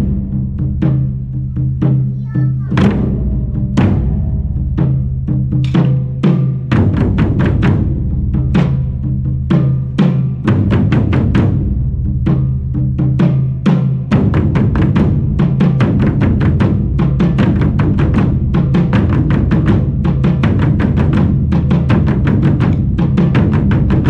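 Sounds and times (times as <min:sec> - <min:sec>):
fast drum strikes: 0:00.0 - 0:24.0.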